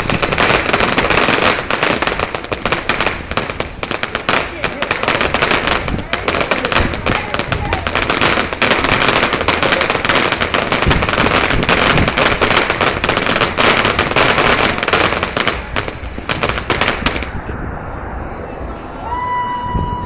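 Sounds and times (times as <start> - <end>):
firework crackling pops: 0.0 - 17.4.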